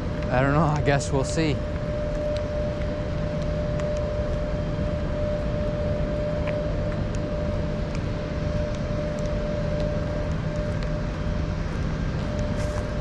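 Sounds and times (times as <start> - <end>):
steady hum-like tone: 0.0 - 13.0.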